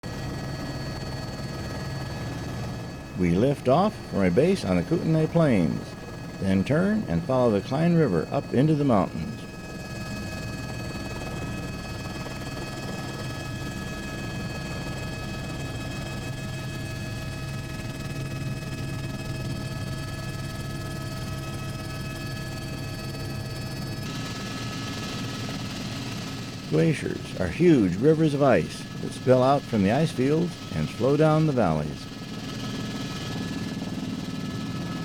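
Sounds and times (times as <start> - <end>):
helicopter engine and rotors: 0.0 - 35.0.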